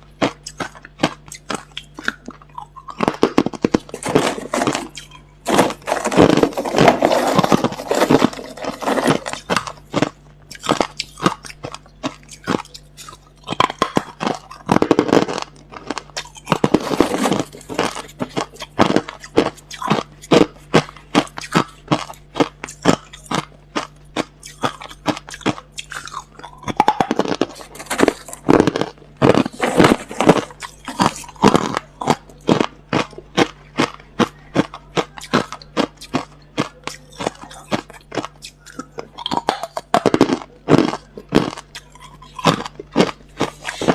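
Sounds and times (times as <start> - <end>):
crushed ice being chewed: 0.0 - 43.9.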